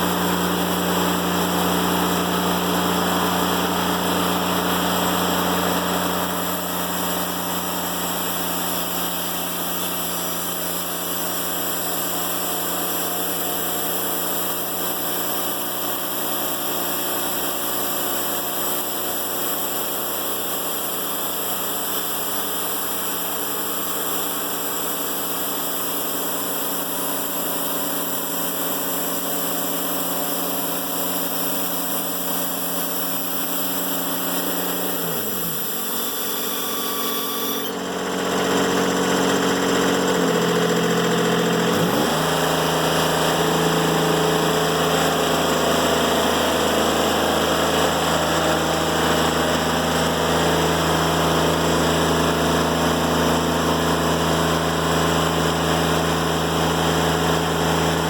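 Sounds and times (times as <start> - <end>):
band sawmill cutting log: 0.0 - 58.0.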